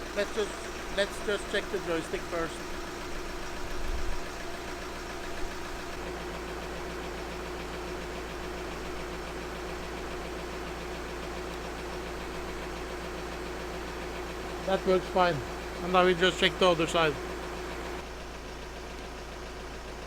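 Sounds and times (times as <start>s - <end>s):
van engine idling: 0.0s - 20.0s.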